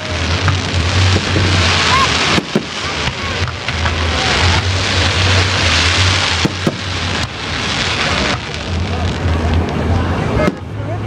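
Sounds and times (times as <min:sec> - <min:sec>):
firework bangs: 0:00.0 - 0:10.8
fireworks crackling hiss: 0:00.0 - 0:11.0.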